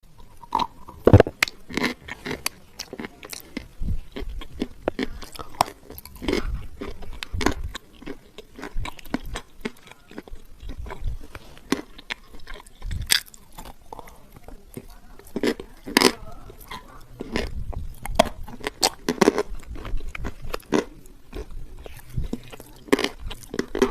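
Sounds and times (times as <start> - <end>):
crunchy biting and chewing: 0.1 - 23.9.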